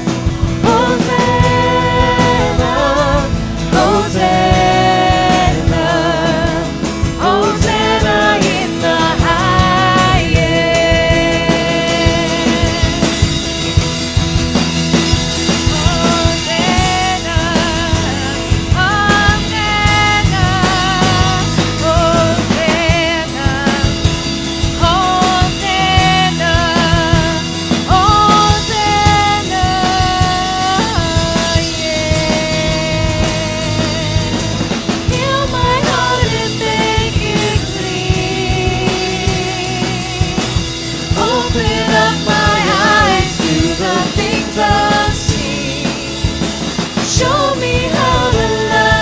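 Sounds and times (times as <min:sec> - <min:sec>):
live band with drums and guitars: 0:00.0 - 0:49.0.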